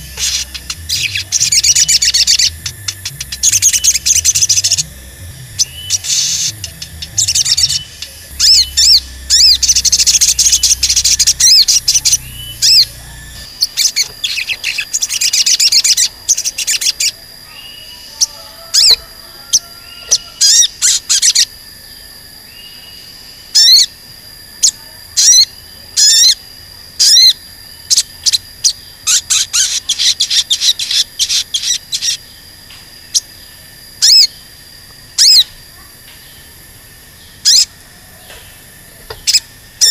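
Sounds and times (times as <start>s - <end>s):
sunbird high chirps: 0.0s - 24.0s, 24.6s - 39.9s.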